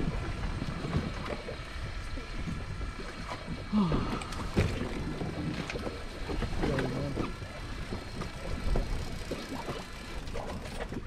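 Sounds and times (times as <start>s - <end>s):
choppy water slapping boat: 0.0s - 11.0s.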